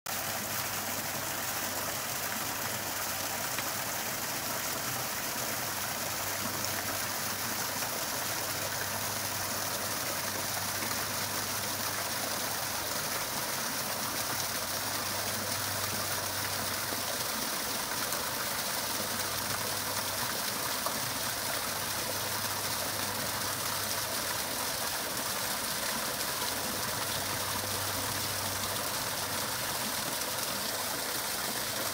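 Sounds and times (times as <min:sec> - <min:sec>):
waterfall splashing over rocks: 0:00.1 - 0:31.9.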